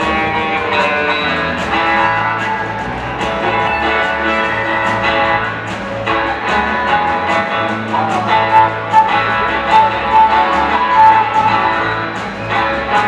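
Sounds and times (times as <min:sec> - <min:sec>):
lead melody with long held notes: 0:00.0 - 0:13.0
strummed guitars: 0:00.0 - 0:13.0.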